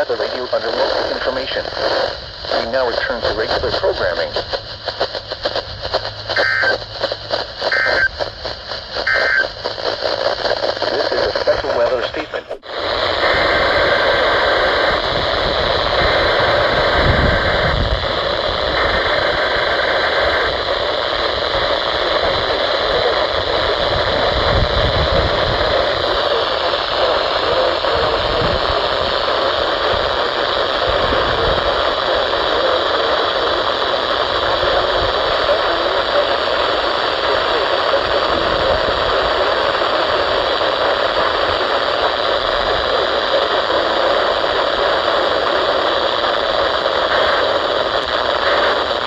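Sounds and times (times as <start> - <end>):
faint data-burst tones: 0.0 - 49.0
radio static hiss: 0.0 - 49.0.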